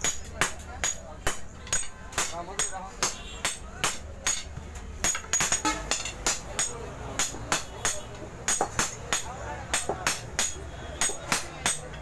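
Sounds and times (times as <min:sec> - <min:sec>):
hammers ringing on anvil: 0:00.0 - 0:12.0.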